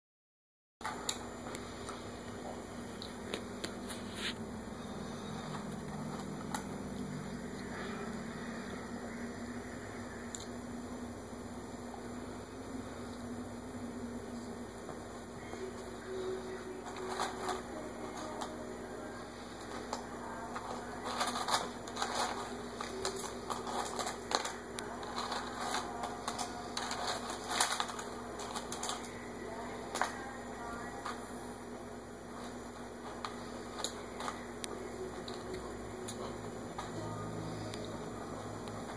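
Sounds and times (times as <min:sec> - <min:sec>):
low room hum: 0:00.8 - 0:38.9.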